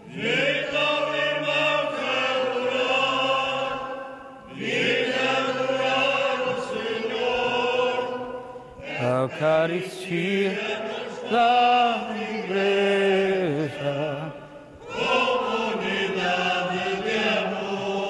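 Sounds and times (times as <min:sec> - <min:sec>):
voices singing a hymn: 0:00.0 - 0:18.0.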